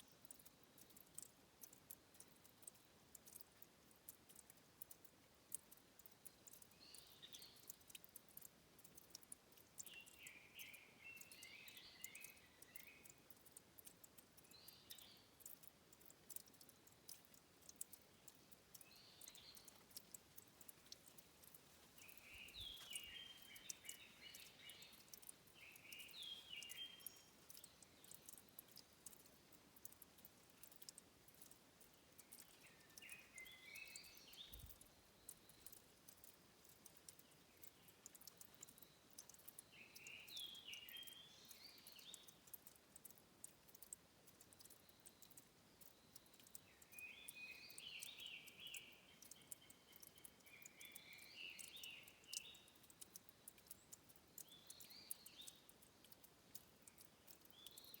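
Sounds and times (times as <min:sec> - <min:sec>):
bird song: 0:00.0 - 0:03.7, 0:04.3 - 0:58.0
light clicks: 0:00.0 - 0:58.0
soft steady hiss: 0:00.0 - 0:58.0.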